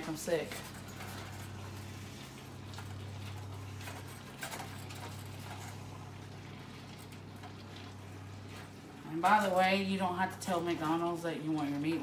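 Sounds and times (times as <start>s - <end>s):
steady low hum: 0.0s - 12.0s
ground beef browning: 0.2s - 10.5s.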